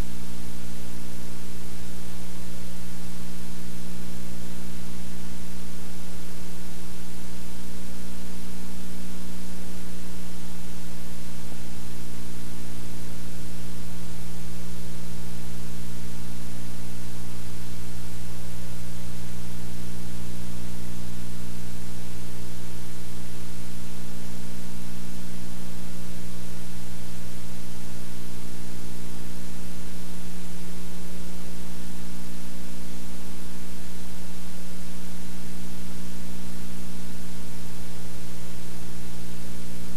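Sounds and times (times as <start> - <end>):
loud mains hum: 0.0 - 39.9
tape hiss: 0.0 - 39.9.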